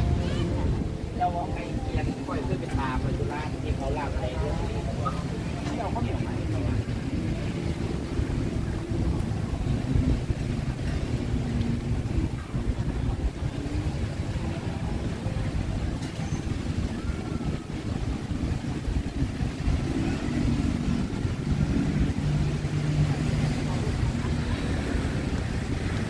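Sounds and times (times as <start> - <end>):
motor traffic going by: 0.0 - 26.0
wind rumble on microphone: 0.0 - 26.0.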